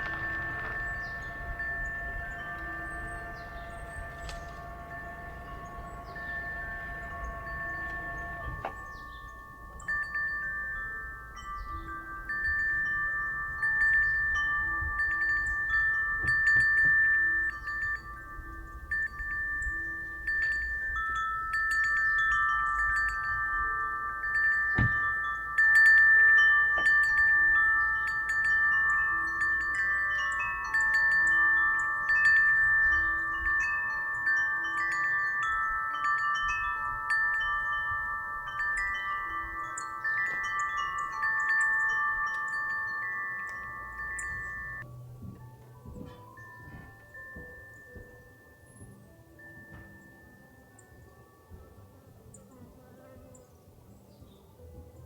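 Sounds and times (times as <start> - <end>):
low wind rumble: 0.0 - 49.4
wind chimes ringing: 0.0 - 55.0.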